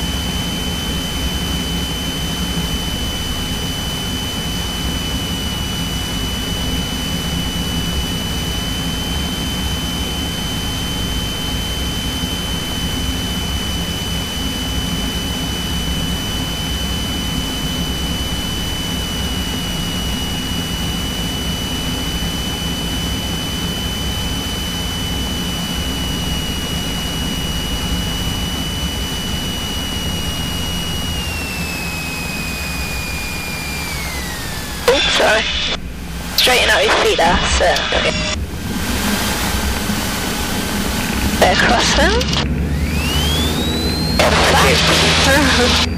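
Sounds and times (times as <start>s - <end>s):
constant high whine: 0.0s - 45.9s
propeller plane engine drone: 0.0s - 45.9s.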